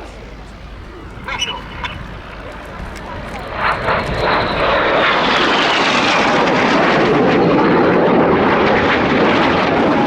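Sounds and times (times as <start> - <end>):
jets flying past: 0.0 - 10.0.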